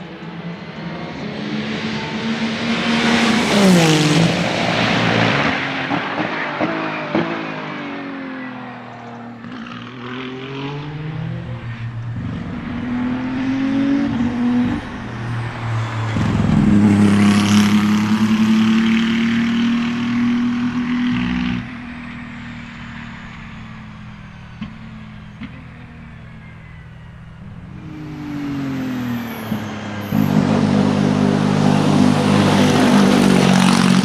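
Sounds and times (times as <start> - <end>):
race car engine accelerating: 0.1 - 34.0.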